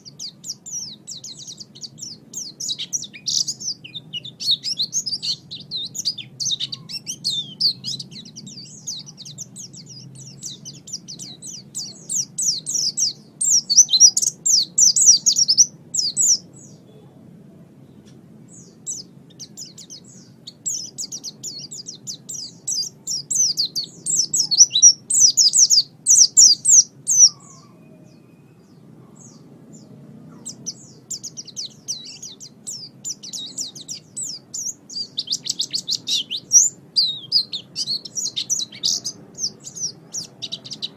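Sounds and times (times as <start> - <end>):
bird twittering song: 0.0 - 17.1, 17.8 - 40.9
faint low hum: 0.0 - 40.9.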